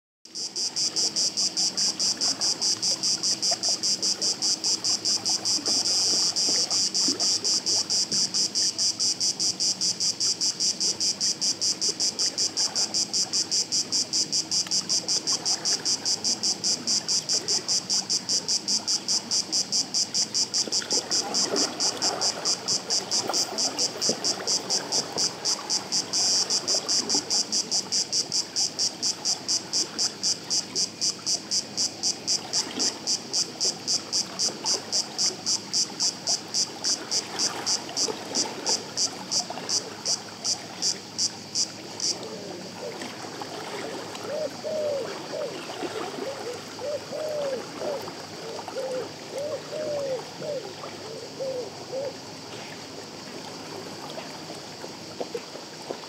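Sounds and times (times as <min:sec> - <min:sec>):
insects chirping: 0:00.3 - 0:56.0
water lapping: 0:00.6 - 0:56.0.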